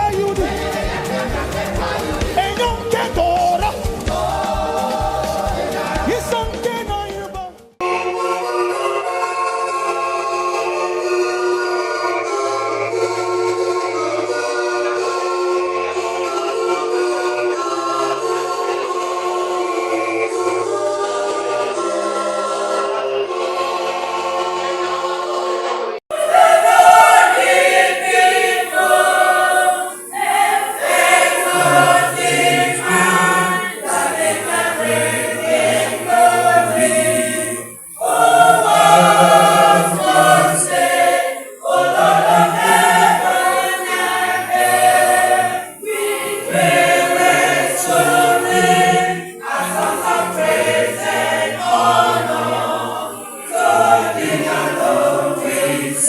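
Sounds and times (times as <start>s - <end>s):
choir singing: 0.0s - 6.5s, 7.8s - 56.0s.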